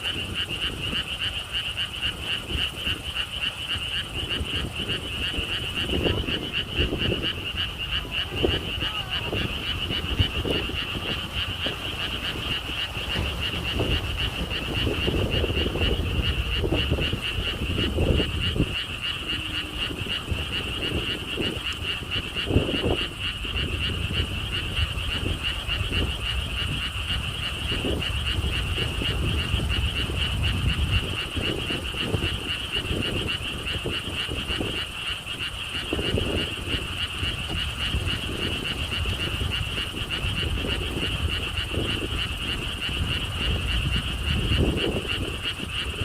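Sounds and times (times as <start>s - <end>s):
frogs trilling: 0.0s - 46.0s
low frog croaks: 0.0s - 46.0s
wind rumbling on microphone: 0.0s - 46.0s.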